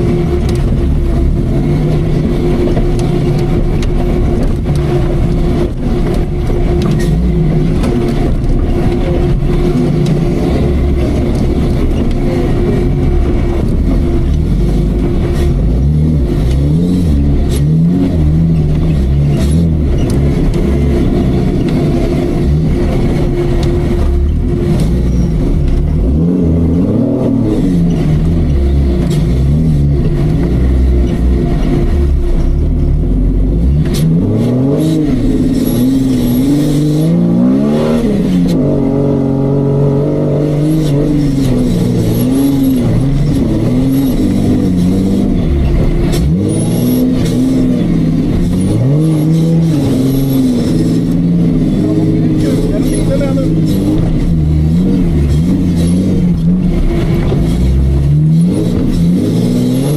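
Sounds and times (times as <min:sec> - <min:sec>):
engine revving under load: 0:00.0 - 0:59.9.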